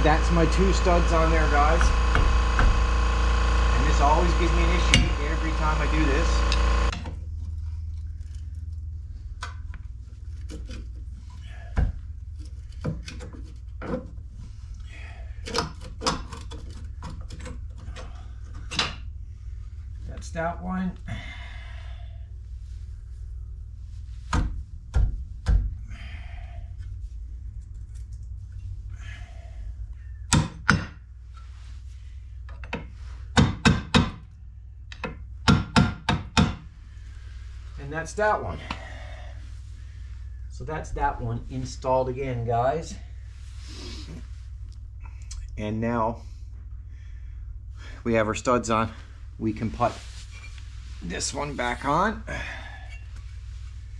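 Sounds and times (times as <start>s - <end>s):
low steady hum: 0.0s - 53.9s.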